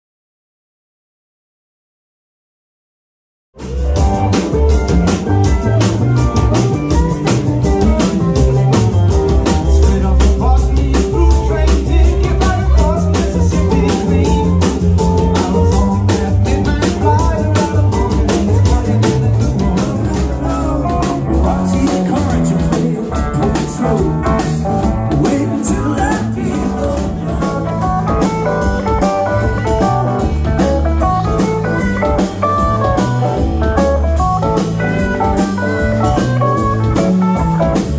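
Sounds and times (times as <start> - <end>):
bass guitar: 3.6 - 37.9
drum kit beat: 3.6 - 37.9
electric guitars: 3.6 - 37.9
keyboard: 3.6 - 37.9.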